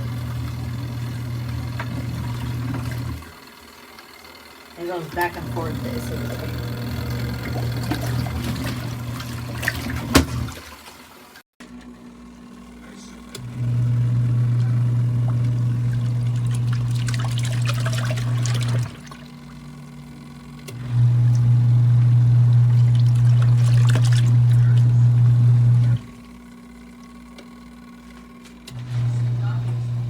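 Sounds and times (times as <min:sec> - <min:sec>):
water churning: 0:00.0 - 0:11.8, 0:13.5 - 0:28.2
washing machine motor humming: 0:00.0 - 0:30.0.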